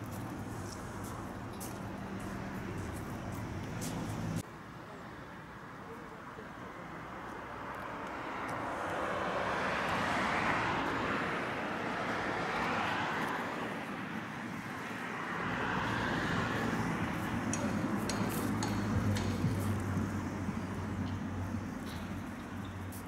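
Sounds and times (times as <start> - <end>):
road traffic rushing by: 0.0 - 23.0.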